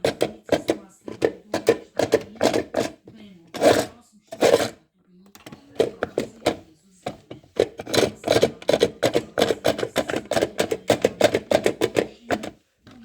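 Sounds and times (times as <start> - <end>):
toy washing machine clattering: 0.0 - 13.0.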